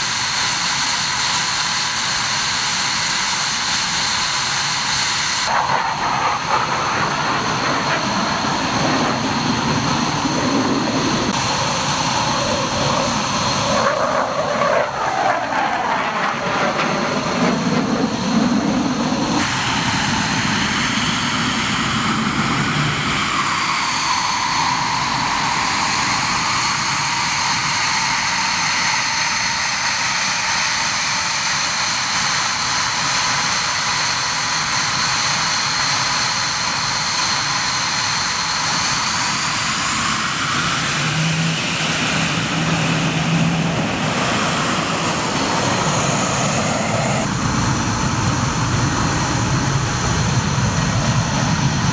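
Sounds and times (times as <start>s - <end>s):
jet turbofan whining: 0.0s - 51.9s
rushing exhaust noise: 0.0s - 51.9s
jet rumble: 0.2s - 51.9s.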